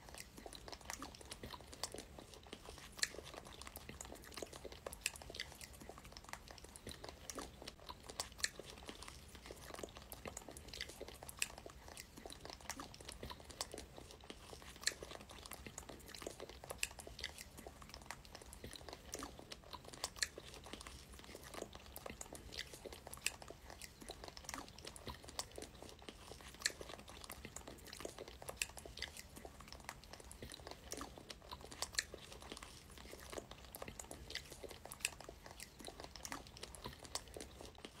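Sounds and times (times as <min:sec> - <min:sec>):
chewing strawberries: 0:00.0 - 0:38.0.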